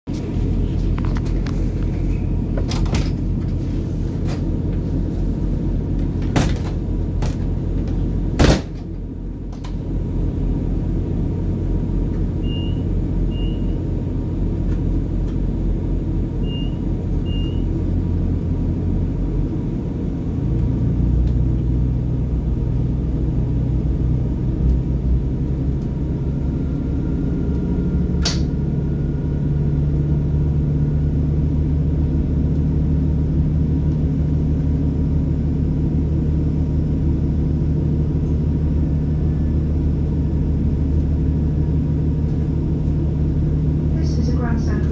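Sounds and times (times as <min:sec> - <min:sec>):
train diesel engine humming: 0:00.1 - 0:44.9.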